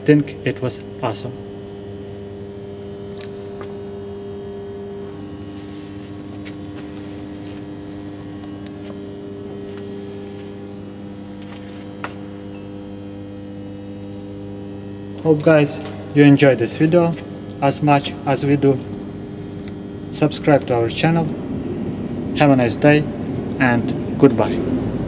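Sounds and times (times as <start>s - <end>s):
electric motor hum: 0.0s - 25.0s.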